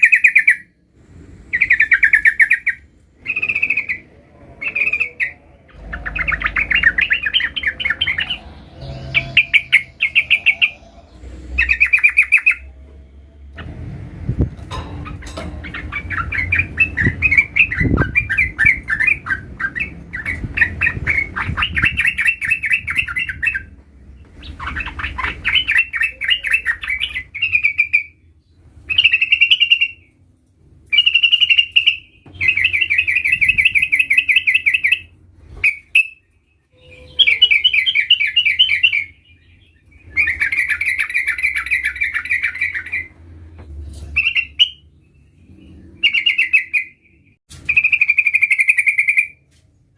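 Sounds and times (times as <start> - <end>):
bird singing rolling trills: 0.0 - 0.8, 1.5 - 13.8, 14.7 - 30.2, 30.9 - 43.2, 44.0 - 49.4.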